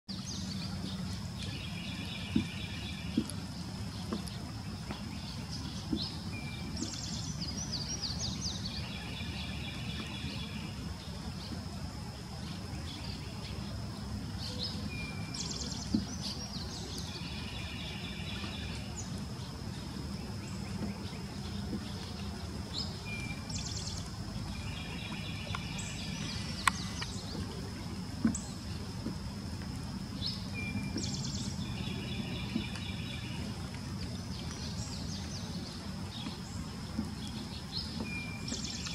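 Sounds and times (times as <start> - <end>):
songbird singing: 0.1 - 38.9
low background rumble: 0.2 - 38.9.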